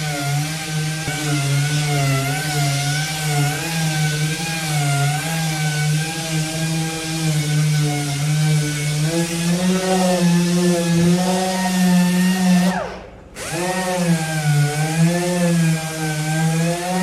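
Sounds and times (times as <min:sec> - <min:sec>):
electric power sander running: 0:00.0 - 0:17.0.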